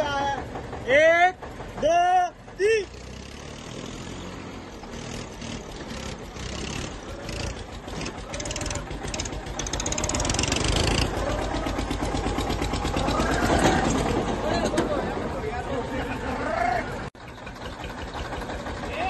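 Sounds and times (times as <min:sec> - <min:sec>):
tractor diesel engines labouring: 0:00.0 - 0:19.0.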